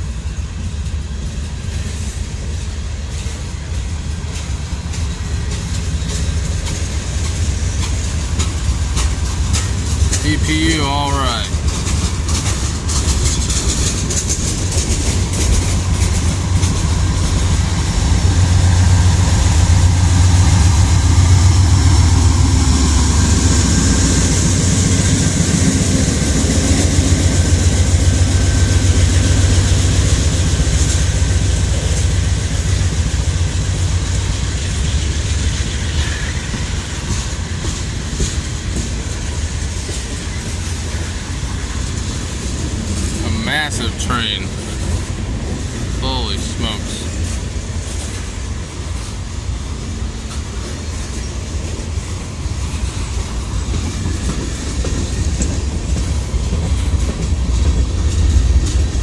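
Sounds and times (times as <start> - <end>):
freight train rumbling past: 0.0 - 59.0
wheels clacking over rails: 1.3 - 43.3, 43.9 - 59.0.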